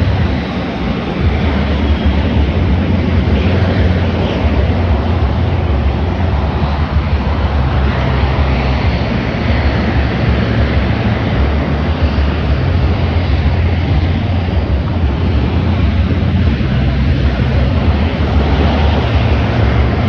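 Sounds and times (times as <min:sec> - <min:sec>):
jet engine noise: 0:00.0 - 0:20.0
wind buffeting microphone: 0:00.0 - 0:20.0.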